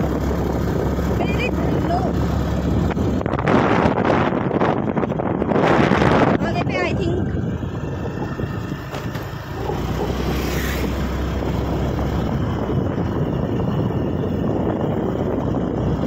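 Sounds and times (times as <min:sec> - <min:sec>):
road and engine noise: 0:00.0 - 0:16.0
wind rushing over microphone: 0:00.0 - 0:16.0.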